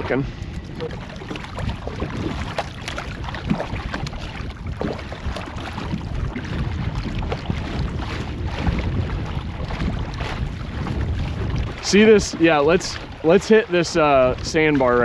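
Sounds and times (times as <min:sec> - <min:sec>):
water splashing around kayak: 0:00.0 - 0:15.0
wind rumbling on microphone: 0:00.0 - 0:15.0.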